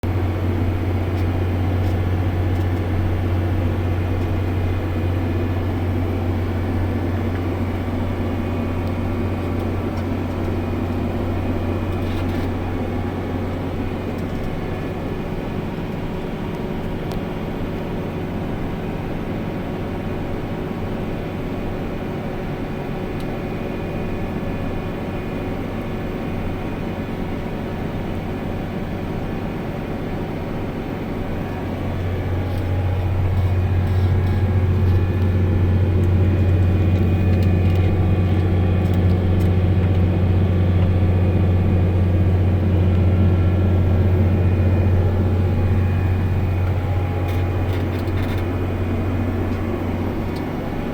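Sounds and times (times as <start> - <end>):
tractor engine droning: 0.0 - 50.9.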